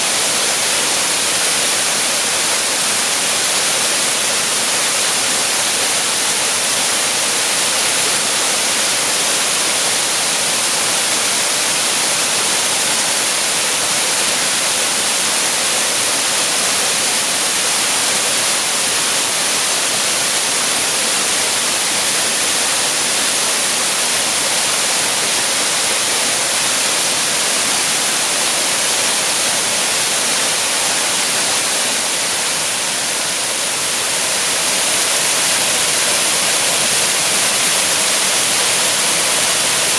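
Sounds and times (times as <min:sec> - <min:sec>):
waterfall pouring: 0:00.0 - 0:39.9.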